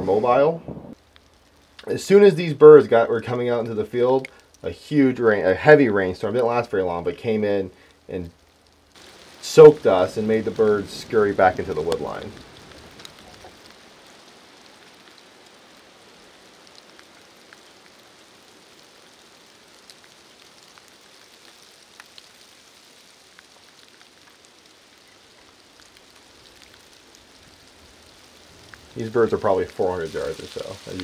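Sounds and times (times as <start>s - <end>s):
heavy rain hiss: 0.0s - 31.0s
raindrop ticks: 0.9s - 31.0s.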